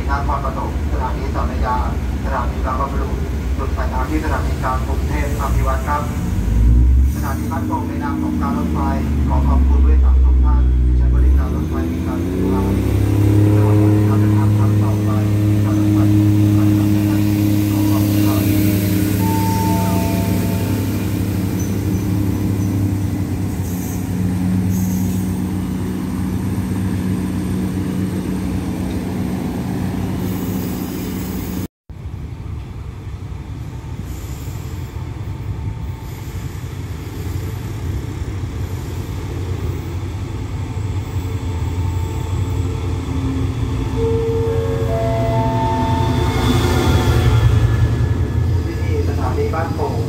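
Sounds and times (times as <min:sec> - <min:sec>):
diesel train engine humming: 0:00.0 - 0:50.0
locomotive rumble: 0:00.0 - 0:50.0.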